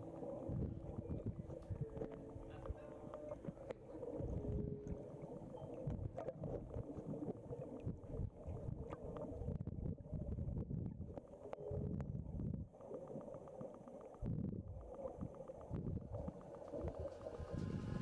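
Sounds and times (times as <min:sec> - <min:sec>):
muffled underwater rumble: 0:00.0 - 0:18.0
faint clicks: 0:00.2 - 0:09.7, 0:11.0 - 0:17.8.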